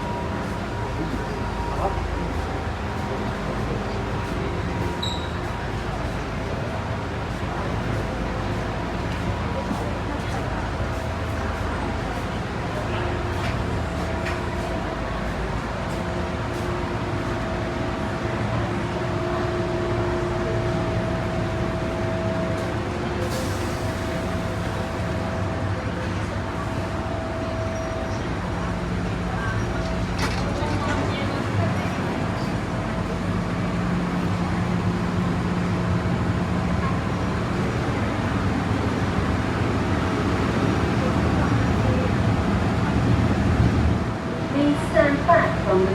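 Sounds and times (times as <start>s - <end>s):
train wheel rumble: 0.0s - 45.9s.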